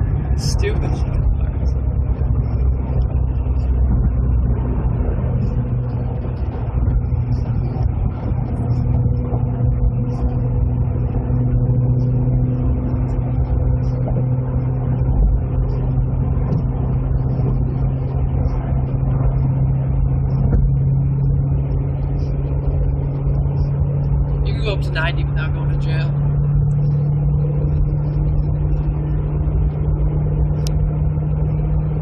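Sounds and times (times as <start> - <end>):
car engine cruising: 0.0 - 32.0.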